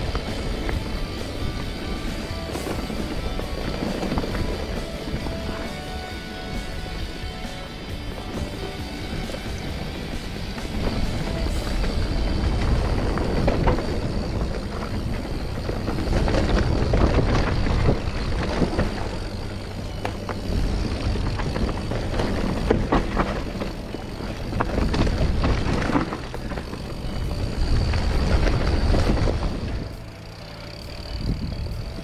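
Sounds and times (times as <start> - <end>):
bike chain and frame rattling: 0.0 - 32.0
tyres running over dirt: 0.0 - 32.0
wind rumbling on microphone: 0.0 - 32.0.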